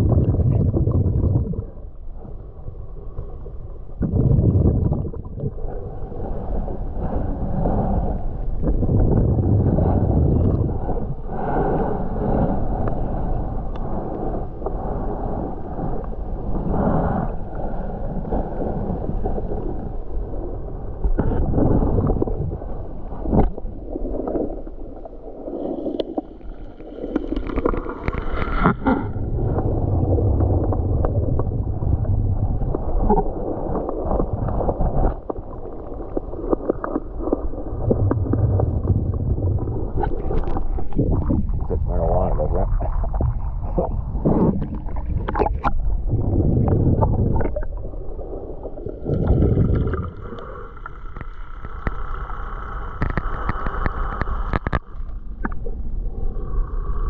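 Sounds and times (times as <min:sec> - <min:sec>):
water gurgling: 0:00.0 - 0:06.0, 0:08.4 - 0:11.2, 0:19.3 - 0:57.0
muffled underwater rumbling: 0:00.0 - 0:57.0.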